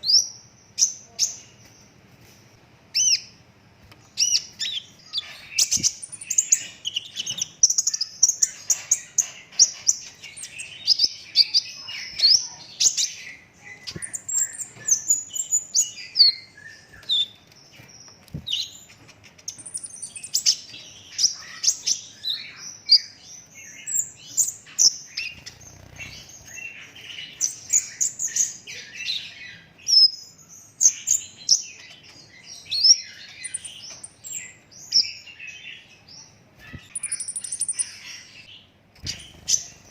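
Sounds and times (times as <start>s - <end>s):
bird chirps and trills: 2.9s - 39.9s.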